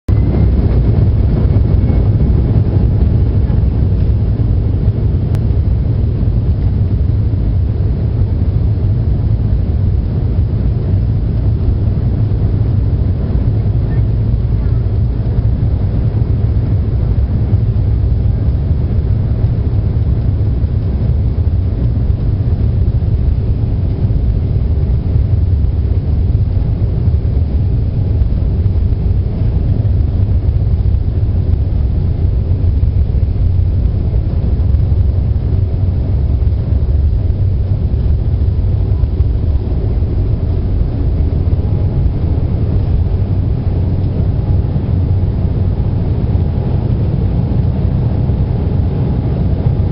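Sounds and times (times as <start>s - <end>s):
airliner engines rumbling: 0.0s - 49.9s
rushing air: 0.0s - 49.9s.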